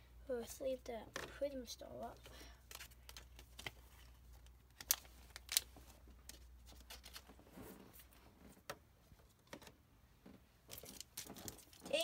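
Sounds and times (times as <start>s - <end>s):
trading cards and sleeves rustling: 1.0s - 9.8s, 10.6s - 12.0s.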